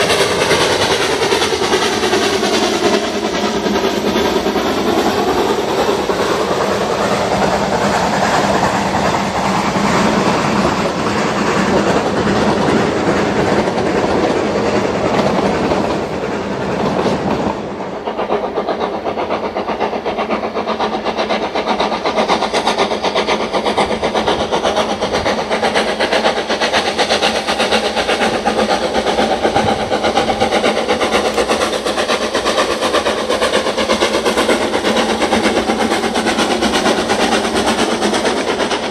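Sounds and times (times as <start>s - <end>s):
steam train running: 0.0s - 38.9s.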